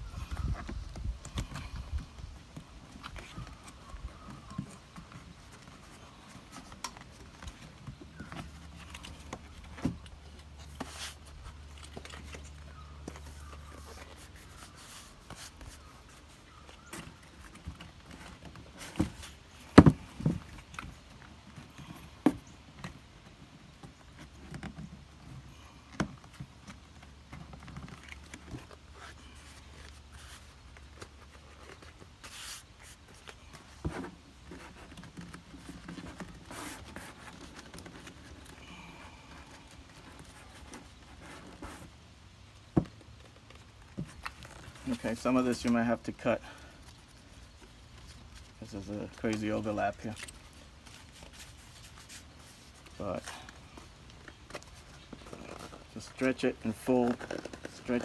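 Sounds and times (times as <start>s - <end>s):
leather cover rustling: 0.0s - 58.0s.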